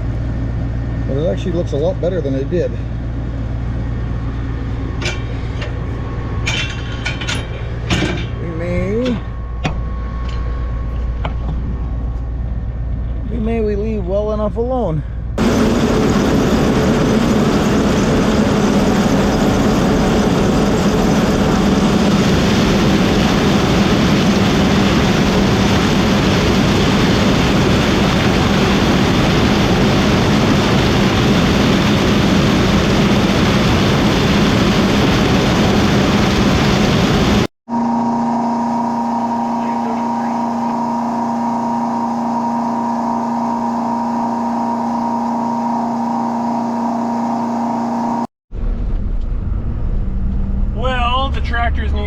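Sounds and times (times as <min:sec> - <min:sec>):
combine harvester running: 0:00.0 - 0:52.0
steady engine hum: 0:00.0 - 0:52.0.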